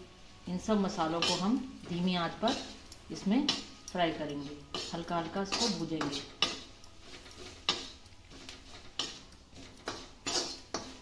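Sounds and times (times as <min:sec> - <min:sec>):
onions frying: 0:00.0 - 0:11.0
metal spatula scraping a pan: 0:00.7 - 0:11.0.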